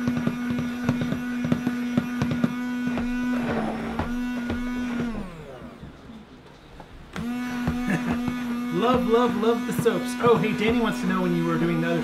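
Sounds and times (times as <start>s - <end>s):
stick blender motor whine: 0.0s - 6.3s, 7.1s - 12.0s.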